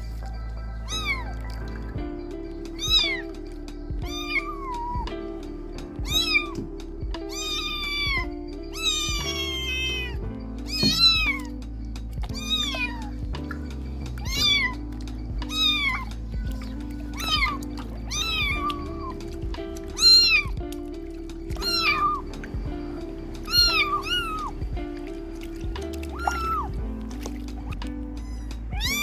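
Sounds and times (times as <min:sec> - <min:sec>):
background music: 0:00.0 - 0:29.0
kittens meowing: 0:00.2 - 0:05.2, 0:05.9 - 0:11.6, 0:12.2 - 0:29.0.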